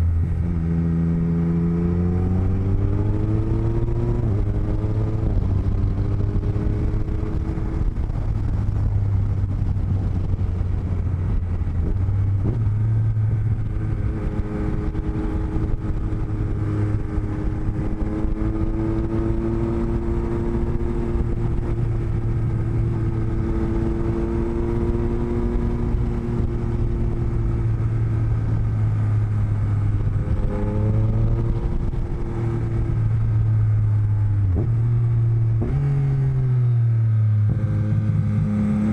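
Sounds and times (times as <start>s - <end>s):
low wind rumble: 0.0s - 38.9s
motorcycle engine: 0.0s - 38.9s.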